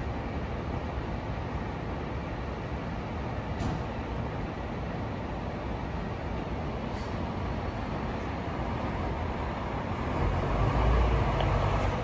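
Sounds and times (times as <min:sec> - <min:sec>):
diesel engine rumbling: 0:00.0 - 0:12.0
street noise: 0:00.0 - 0:12.0.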